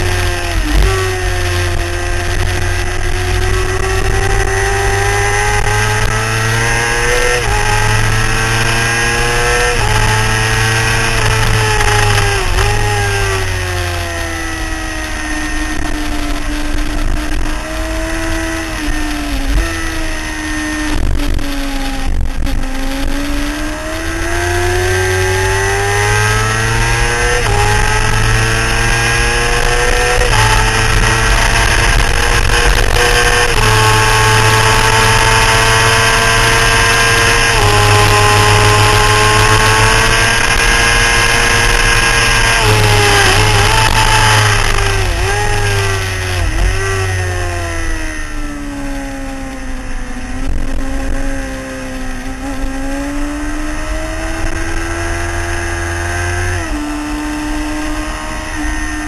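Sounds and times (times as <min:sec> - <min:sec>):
motorcycle engine at full throttle: 0:00.0 - 0:59.0.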